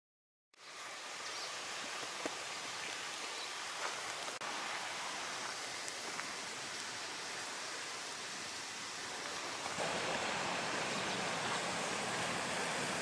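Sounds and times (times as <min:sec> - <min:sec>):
outdoor background hiss: 0:00.6 - 0:13.0.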